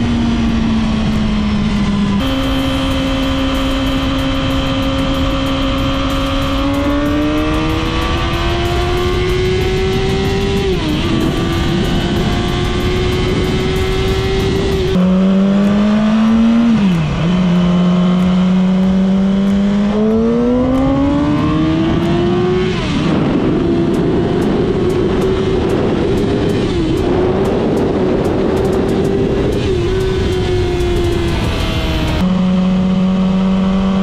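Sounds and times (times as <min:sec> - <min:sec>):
motorcycle engine accelerating: 0:00.0 - 0:34.0
wind rush: 0:00.0 - 0:34.0.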